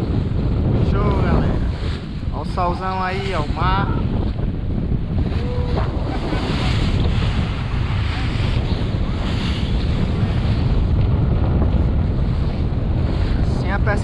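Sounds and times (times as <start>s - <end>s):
sea waves rushing: 0.0s - 14.0s
wind buffeting microphone: 0.0s - 14.0s.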